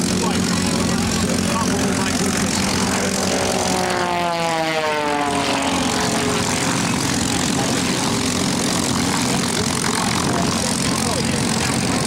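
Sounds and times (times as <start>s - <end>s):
biplane engine and propeller: 0.0s - 12.0s.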